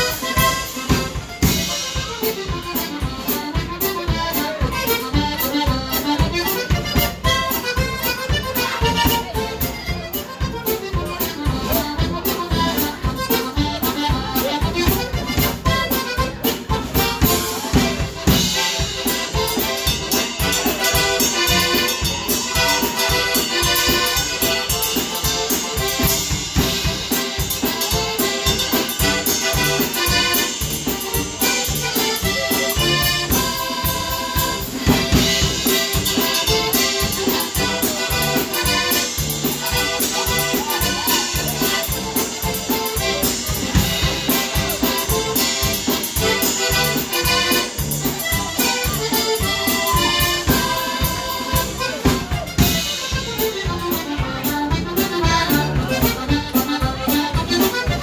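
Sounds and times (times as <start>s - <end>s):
accordions playing: 0.0s - 58.0s
drum kit beat: 0.0s - 58.0s
tuba: 10.9s - 58.0s.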